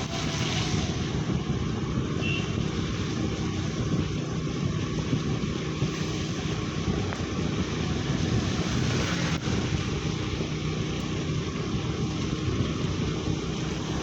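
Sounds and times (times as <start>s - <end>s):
vehicle rumble: 0.0s - 14.0s
wind noise on microphone: 0.0s - 14.0s.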